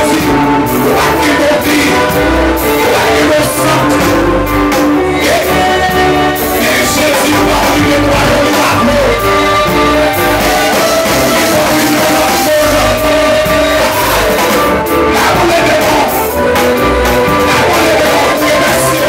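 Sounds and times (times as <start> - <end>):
bass guitar: 0.0 - 19.0
drum kit: 0.0 - 19.0
electronic keyboard held notes: 0.0 - 19.0
people singing: 0.0 - 19.0.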